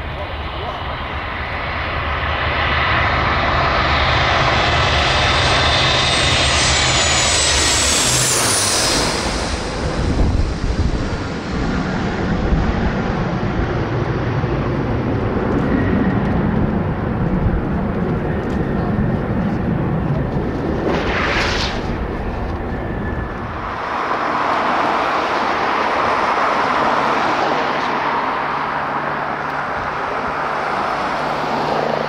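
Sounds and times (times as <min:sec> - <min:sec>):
jet engine high whine: 0:00.0 - 0:32.0
jet engine passing: 0:00.0 - 0:32.0.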